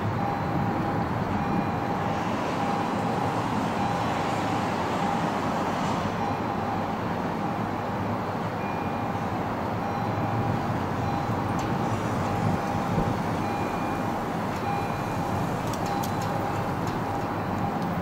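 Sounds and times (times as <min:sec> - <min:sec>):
diesel train rumbling: 0:00.0 - 0:18.0.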